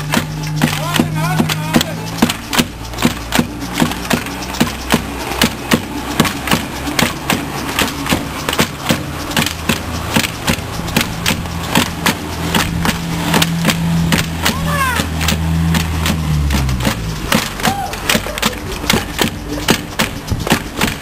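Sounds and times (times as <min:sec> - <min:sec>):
steady low hum: 0:00.0 - 0:20.8
wooden sticks knocking on pavement: 0:00.0 - 0:21.0.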